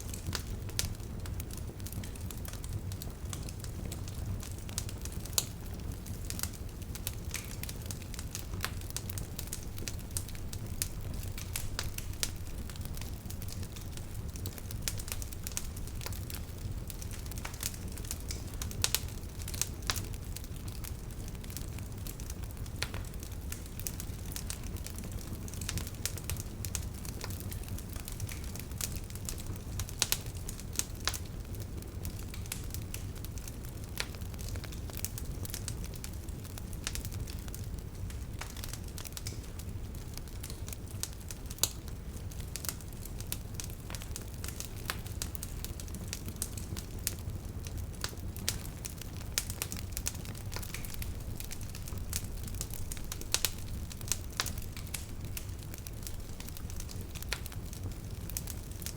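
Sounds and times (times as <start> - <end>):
bonfire crackling and popping: 0.0 - 58.9.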